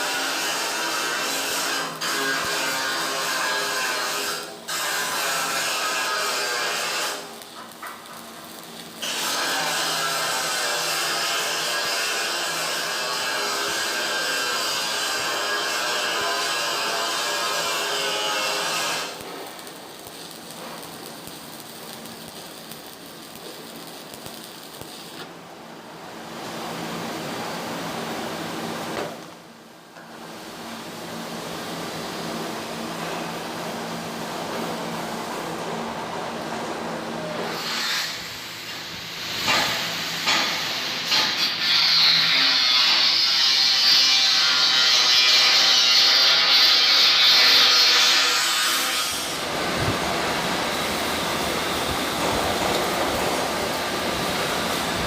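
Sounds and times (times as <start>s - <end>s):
arc welding crackling: 0.0s - 29.4s, 37.3s - 55.0s.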